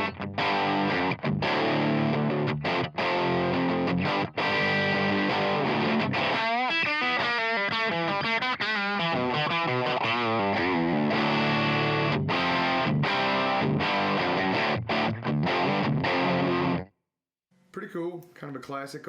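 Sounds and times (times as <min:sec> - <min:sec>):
overdriven electric guitar: 0:00.0 - 0:16.9.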